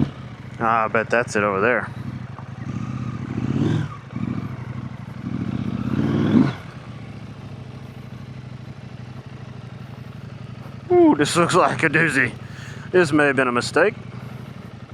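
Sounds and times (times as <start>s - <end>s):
motorcycle engine revving and idling: 0.0s - 14.9s.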